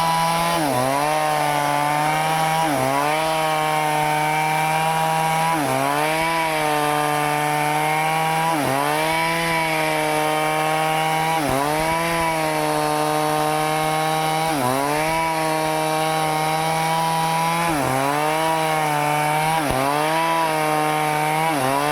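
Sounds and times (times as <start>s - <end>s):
chainsaw cutting wood: 0.0s - 21.9s.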